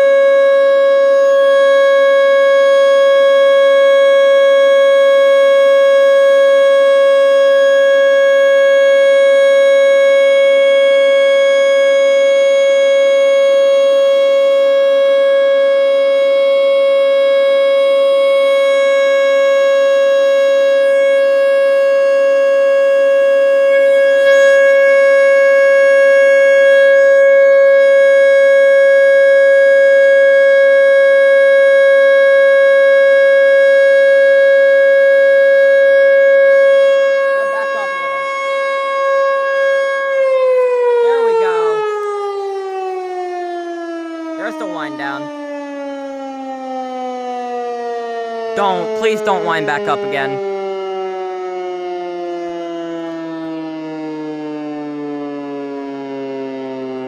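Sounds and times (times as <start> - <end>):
warning siren steady tone: 0.0 - 57.0.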